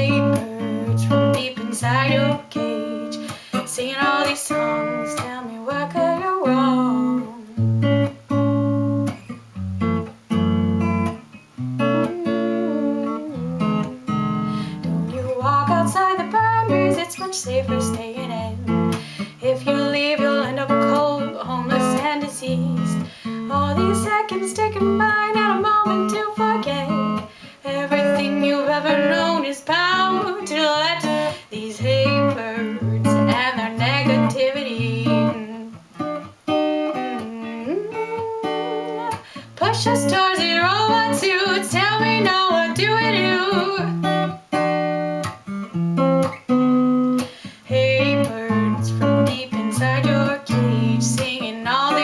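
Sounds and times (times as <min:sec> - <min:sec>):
woman singing: 0:00.0 - 0:07.7, 0:11.8 - 0:35.8, 0:36.9 - 0:44.4, 0:47.6 - 0:52.0
acoustic guitar strumming: 0:00.0 - 0:52.0.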